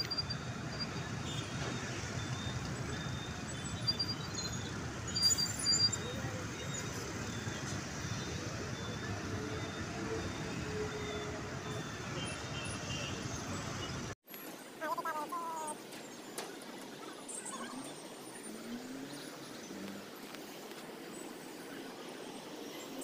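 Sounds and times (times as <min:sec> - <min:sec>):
traffic din: 0:00.0 - 0:23.0.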